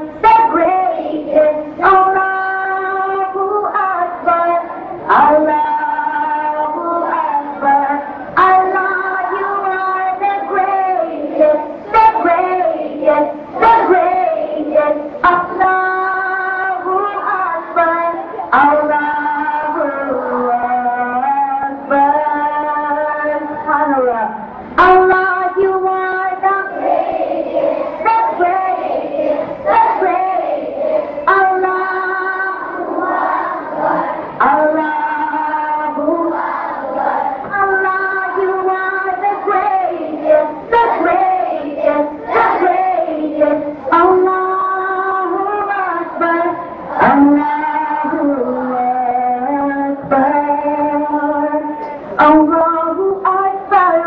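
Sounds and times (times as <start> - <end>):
children singing: 0.0 - 22.6, 24.9 - 51.8
woman singing: 0.0 - 27.0, 28.0 - 30.6, 31.2 - 54.0.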